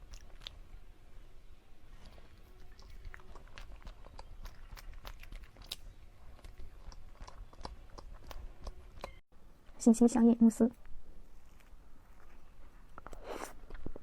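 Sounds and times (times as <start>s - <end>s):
wet chewing with crunches: 0.0s - 9.2s, 10.8s - 14.0s.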